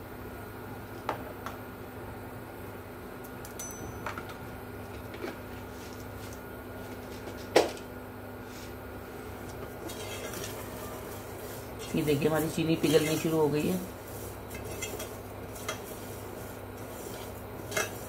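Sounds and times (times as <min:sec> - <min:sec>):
low kitchen hum: 0:00.0 - 0:18.0.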